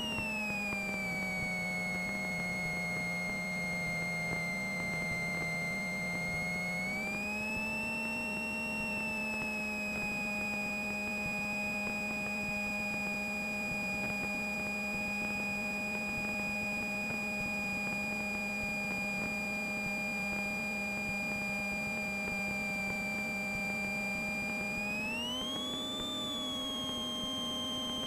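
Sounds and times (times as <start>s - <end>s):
high-pitched engine whine: 0.0s - 28.0s.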